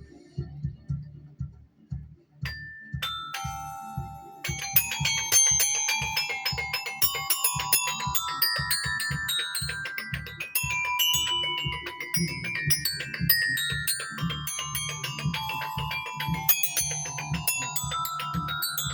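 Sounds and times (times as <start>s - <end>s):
low drum beat: 0.4s - 18.9s
mallet percussion notes: 2.5s - 18.9s.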